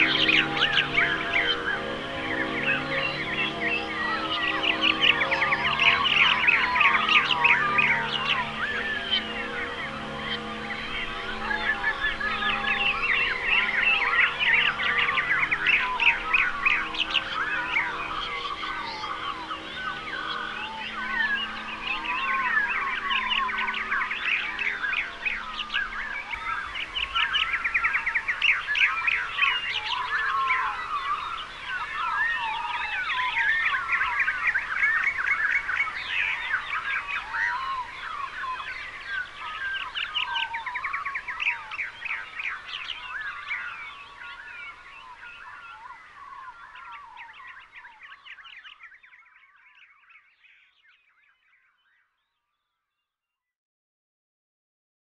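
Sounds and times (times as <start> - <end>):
dawn chorus of birds singing: 0.0 - 53.2.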